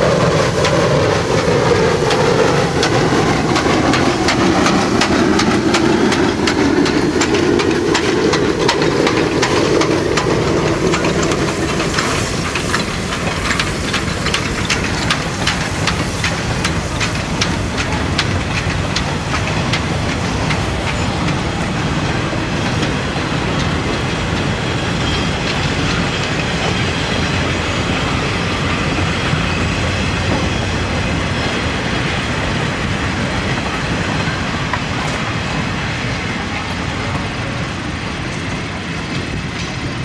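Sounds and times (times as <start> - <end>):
rumble of wheels on rail: 0.0 - 40.0
train wheels clicking over rail joints: 0.0 - 40.0.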